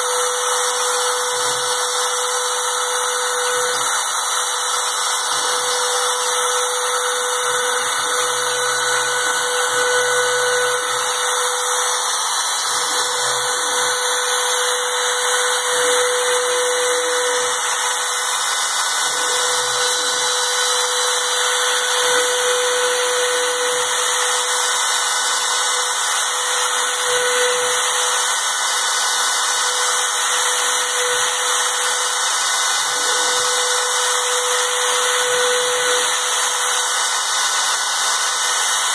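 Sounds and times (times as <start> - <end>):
power tool hissing and humming: 0.0 - 38.9.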